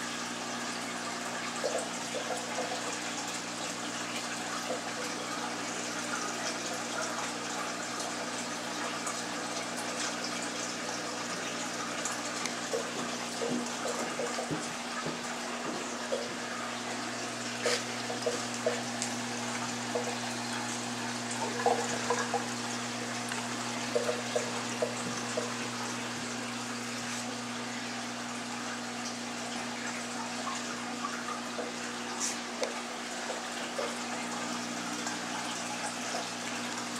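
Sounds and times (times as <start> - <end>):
water running and splashing: 0.0 - 36.9
small bubbling: 4.3 - 36.9.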